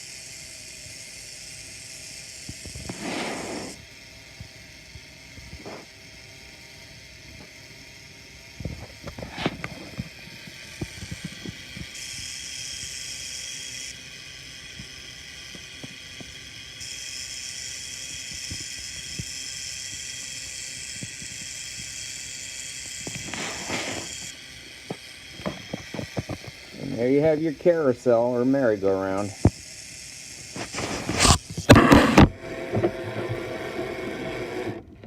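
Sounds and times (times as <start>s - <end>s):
high hiss: 0.0s - 33.4s
toy motor whirring through gears: 0.0s - 35.0s.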